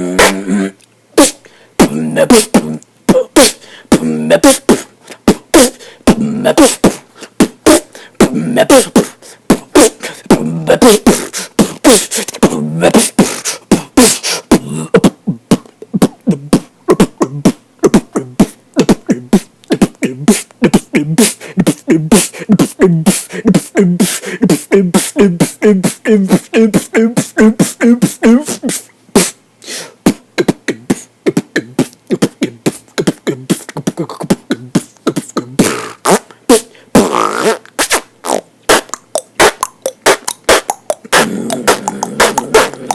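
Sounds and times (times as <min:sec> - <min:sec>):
person beatboxing: 0:00.0 - 0:42.9.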